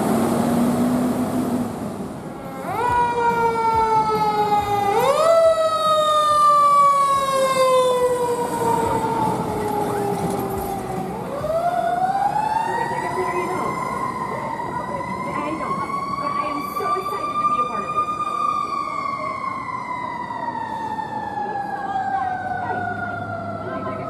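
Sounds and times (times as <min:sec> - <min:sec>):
fire truck siren wailing: 0:00.0 - 0:24.0.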